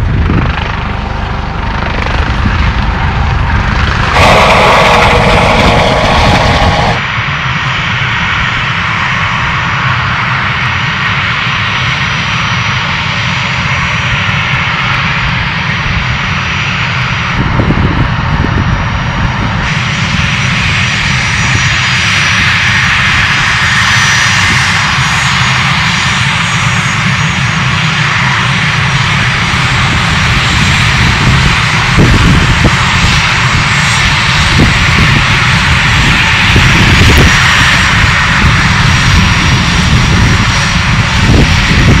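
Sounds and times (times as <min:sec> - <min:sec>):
helicopter: 0:00.0 - 0:42.0
jet engines running: 0:00.0 - 0:42.0.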